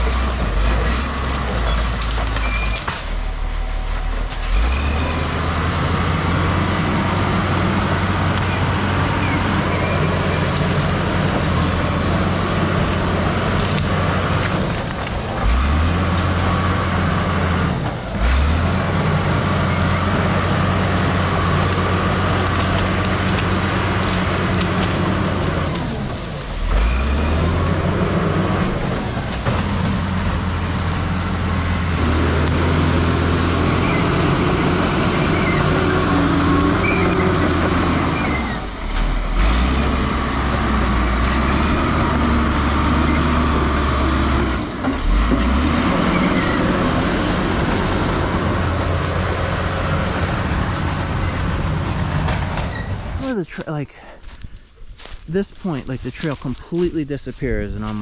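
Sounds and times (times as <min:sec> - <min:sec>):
bulldozer diesel engine under load: 0:00.0 - 0:58.0
dozer pushing through brush: 0:00.0 - 0:58.0.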